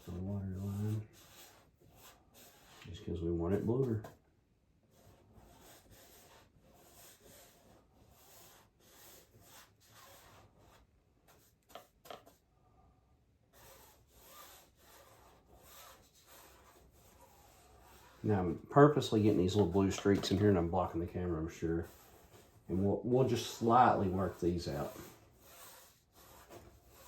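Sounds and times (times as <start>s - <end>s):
paintbrush scrubbing on canvas: 0.0s - 4.1s, 4.9s - 12.4s, 13.5s - 27.0s.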